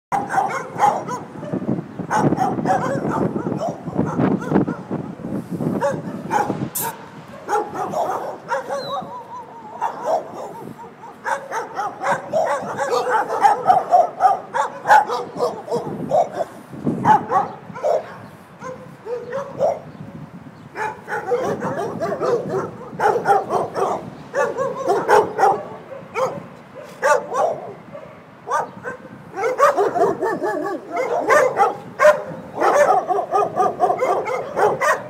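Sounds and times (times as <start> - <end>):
dogs barking: 0.1 - 20.0, 20.7 - 35.0.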